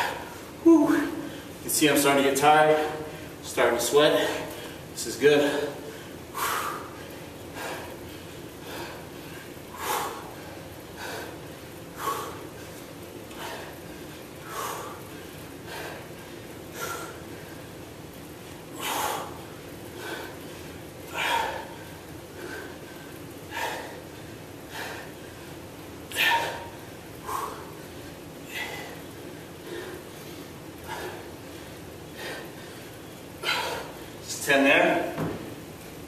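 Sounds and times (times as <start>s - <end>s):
man breathing hard: 0.0s - 1.6s, 4.2s - 17.9s, 18.7s - 34.3s.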